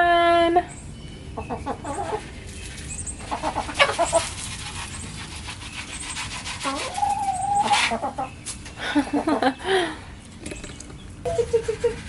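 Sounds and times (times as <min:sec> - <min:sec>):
chickens clucking: 0:01.4 - 0:09.8, 0:10.4 - 0:12.0.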